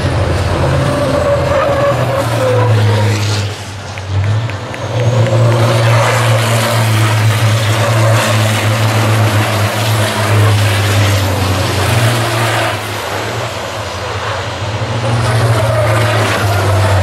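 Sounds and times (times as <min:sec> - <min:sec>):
race truck engines roaring past: 0:00.0 - 0:17.0.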